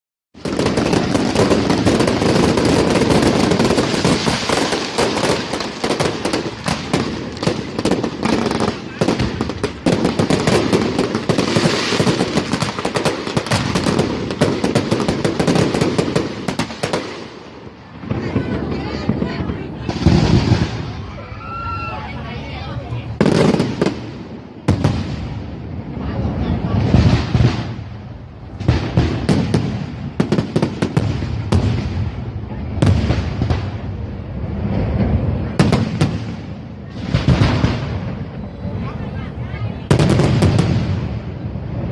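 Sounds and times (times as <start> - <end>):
fireworks crackling: 0.4 - 41.9.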